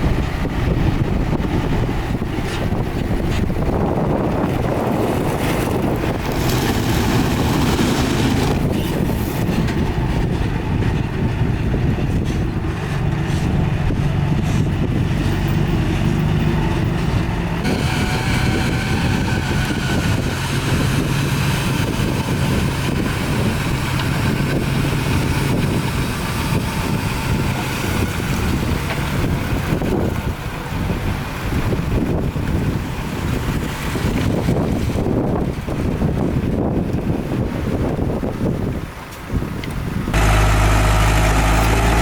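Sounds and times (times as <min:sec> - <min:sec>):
higher engine note and whine: 0:00.0 - 0:35.0, 0:40.1 - 0:42.0
diesel earthmoving machinery drone: 0:00.0 - 0:42.0.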